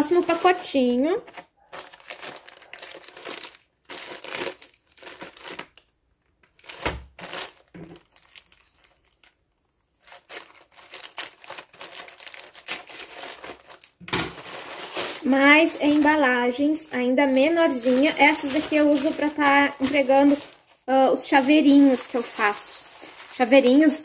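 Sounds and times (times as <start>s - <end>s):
plastic mailer crinkling: 0.0s - 24.0s.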